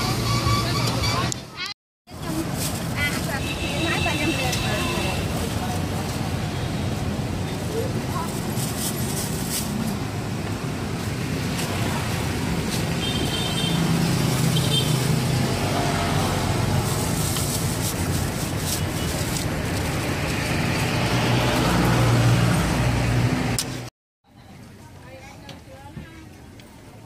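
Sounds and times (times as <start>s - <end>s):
traffic hum: 0.0s - 27.0s.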